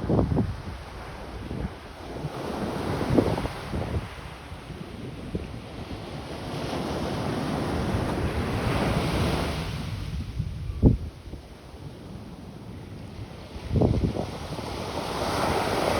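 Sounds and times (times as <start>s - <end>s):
wind buffeting microphone: 0.0s - 6.3s, 7.2s - 15.9s.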